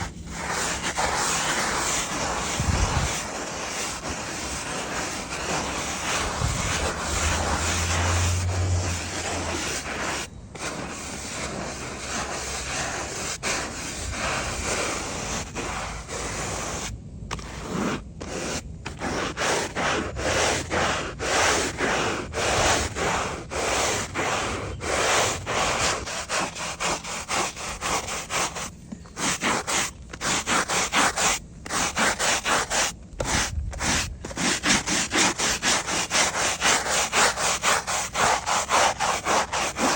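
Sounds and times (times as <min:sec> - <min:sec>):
stiff brush scrubbing tarmac: 0:00.0 - 0:39.9.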